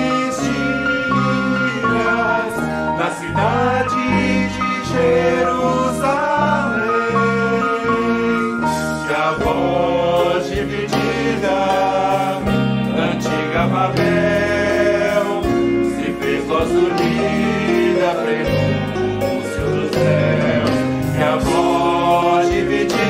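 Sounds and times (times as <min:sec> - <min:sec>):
band with piano and drums: 0:00.0 - 0:23.0
choir singing in harmony: 0:00.0 - 0:23.0.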